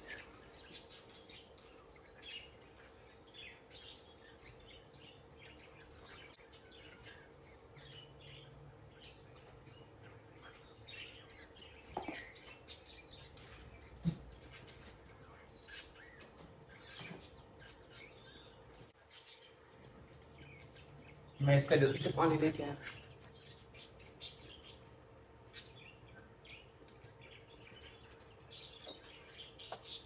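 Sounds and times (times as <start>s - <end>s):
small birds high chirps: 0.0s - 30.0s.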